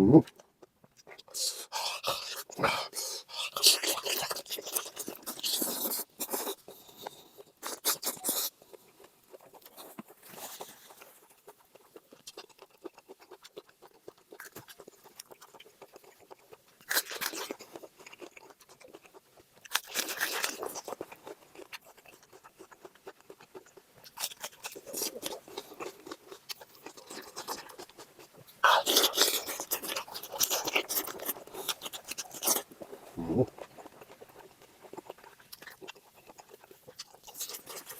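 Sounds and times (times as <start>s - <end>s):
chewing and crunching: 0.2s - 37.9s.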